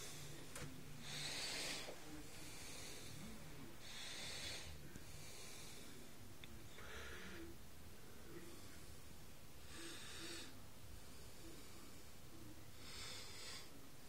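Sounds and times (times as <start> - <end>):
soft hissing breaths: 0.0 - 14.0.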